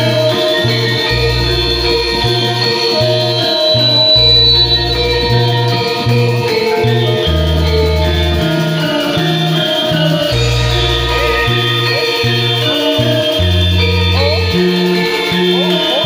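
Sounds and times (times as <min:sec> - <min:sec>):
electronic keyboard bass notes: 0:00.0 - 0:16.0
gamelan metal keyed instruments: 0:00.0 - 0:16.0.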